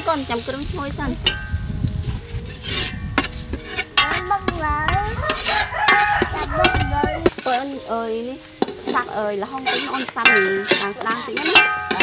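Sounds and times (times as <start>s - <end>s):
metal ladle scraping a pot: 1.2s - 7.9s, 8.6s - 12.0s.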